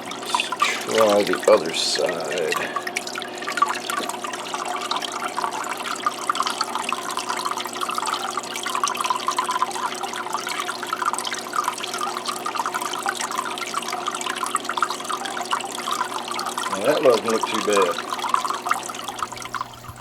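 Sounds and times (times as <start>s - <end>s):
small waterfall trickling: 0.0s - 20.0s.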